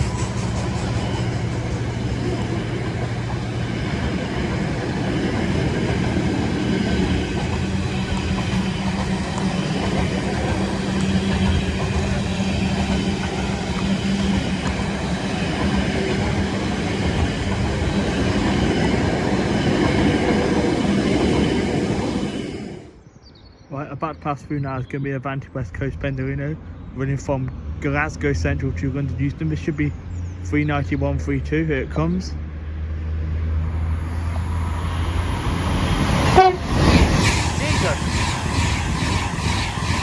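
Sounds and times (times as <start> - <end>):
freight train passing rumble: 0.0 - 23.1, 23.9 - 40.0.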